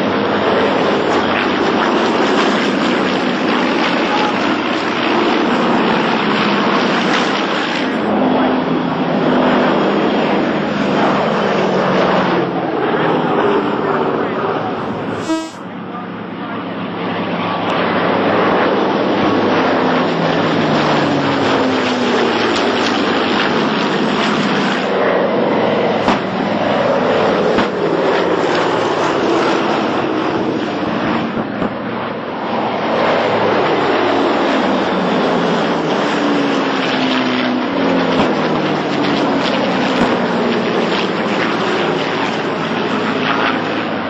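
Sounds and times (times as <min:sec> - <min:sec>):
propeller plane engines droning: 0:00.0 - 0:44.0.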